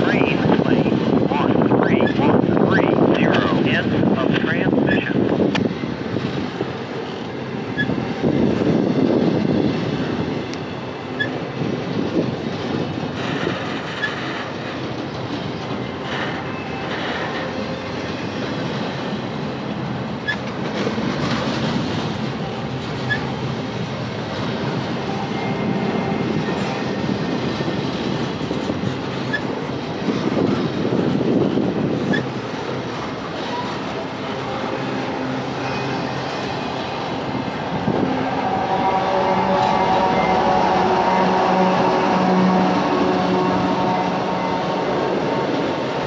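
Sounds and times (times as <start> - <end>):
freight train rolling past: 0.0 - 46.0.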